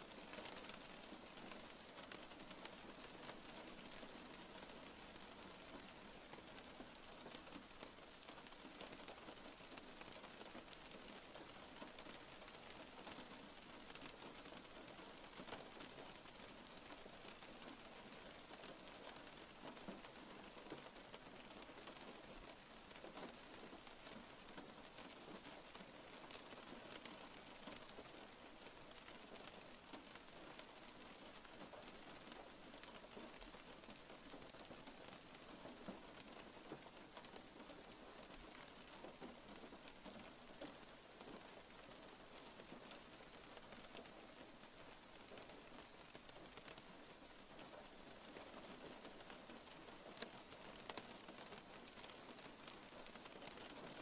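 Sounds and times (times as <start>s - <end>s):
faint steady rain: 0.0s - 54.0s.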